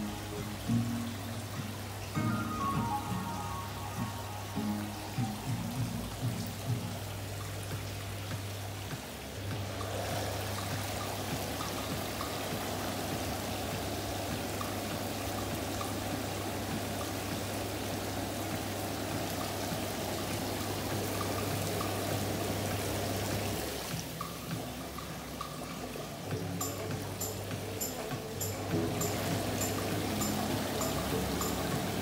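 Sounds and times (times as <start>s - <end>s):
low pump hum: 0.0s - 32.0s
water churning and bubbling: 0.0s - 32.0s.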